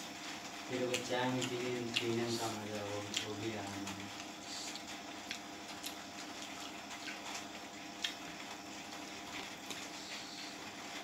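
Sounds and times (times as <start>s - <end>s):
faint steady hum: 0.0s - 11.0s
wet chewing: 0.9s - 9.9s.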